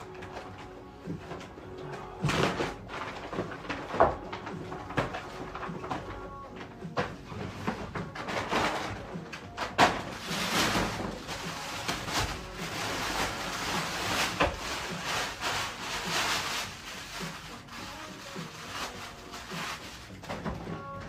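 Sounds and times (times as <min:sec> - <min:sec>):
plastic bags rustling: 0:00.0 - 0:21.0.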